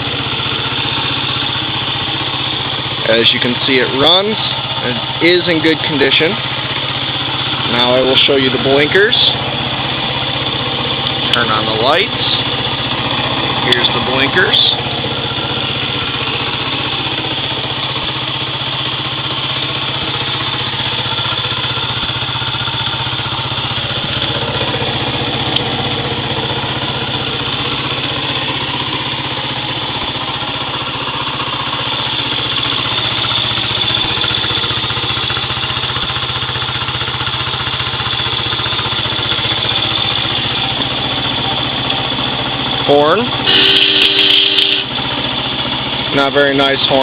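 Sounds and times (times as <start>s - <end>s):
motorcycle engine idling: 0.0s - 47.0s.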